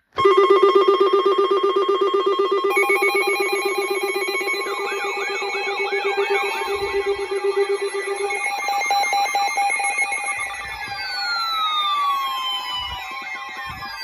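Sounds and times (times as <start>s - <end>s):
low pulsing tone: 0.2s - 11.6s
steady alert tones: 0.2s - 14.0s
warbling alert tone: 0.2s - 14.0s
falling tone sweeps: 2.1s - 14.0s.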